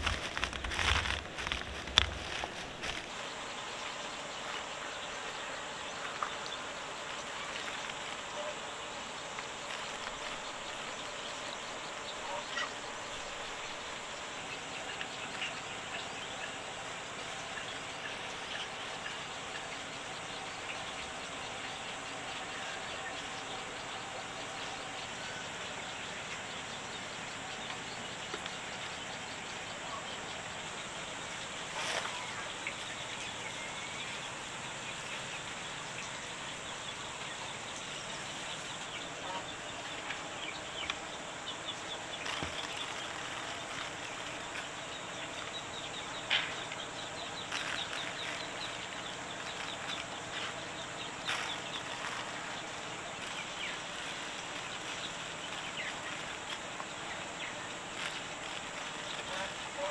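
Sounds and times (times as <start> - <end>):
faint bird calls: 0.0 - 59.9
insects: 0.0 - 59.9
outdoor background hiss: 0.0 - 59.9.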